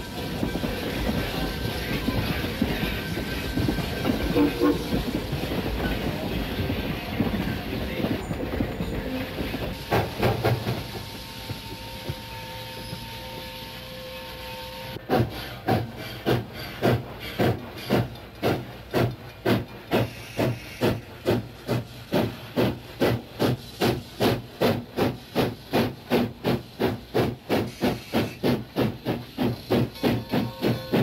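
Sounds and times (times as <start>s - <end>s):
rolling train rumble: 0.0s - 31.0s
steam locomotive chuffing: 0.0s - 31.0s.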